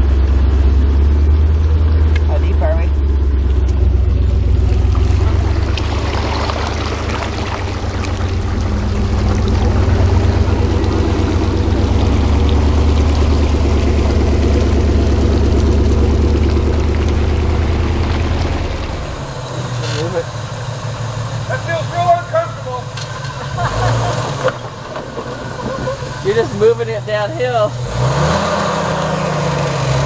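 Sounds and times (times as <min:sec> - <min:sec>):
vehicle engine running: 0:00.0 - 0:30.0
water splashing and rushing: 0:00.0 - 0:30.0.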